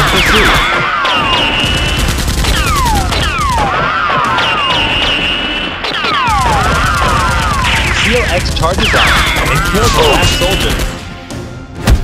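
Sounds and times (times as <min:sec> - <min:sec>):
automatic gunfire: 0:00.0 - 0:05.2, 0:05.8 - 0:11.0.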